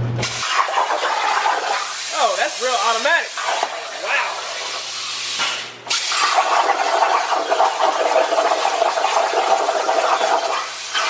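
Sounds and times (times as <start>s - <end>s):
plasma arc hissing: 0.2s - 11.0s.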